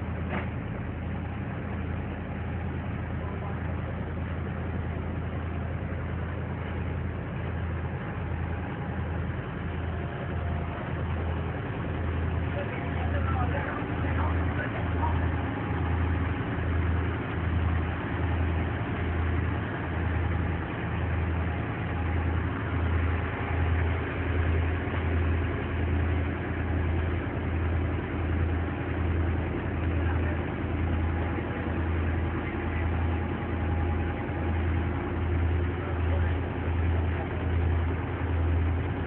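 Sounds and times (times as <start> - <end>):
boat engine throbbing drone: 0.0 - 39.0.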